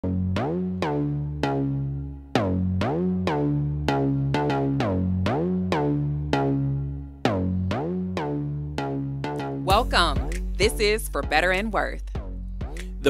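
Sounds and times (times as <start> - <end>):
electronic music with drum machine: 0.0 - 13.0.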